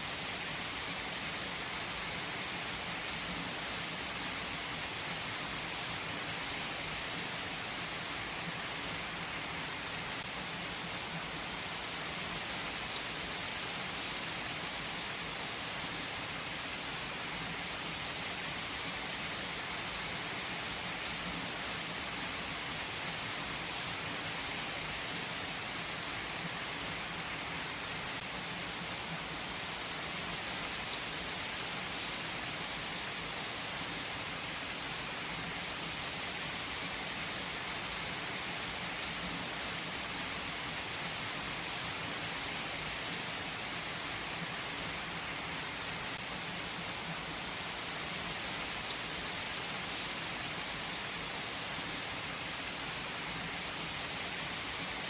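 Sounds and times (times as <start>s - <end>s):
heavy rain on foliage: 0.0s - 55.0s.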